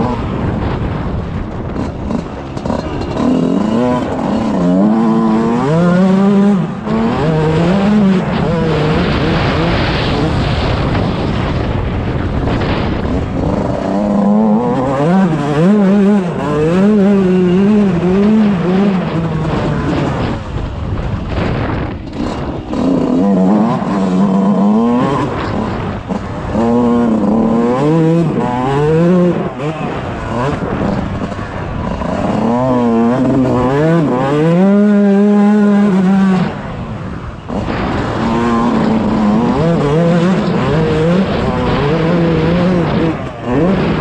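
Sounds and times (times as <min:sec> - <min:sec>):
two-stroke motocross engine revving: 0:00.0 - 0:44.0.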